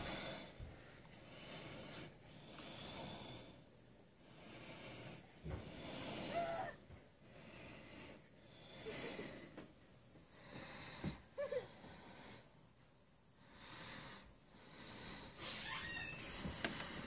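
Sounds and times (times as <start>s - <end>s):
person breathing: 0.0s - 12.6s, 13.4s - 17.0s.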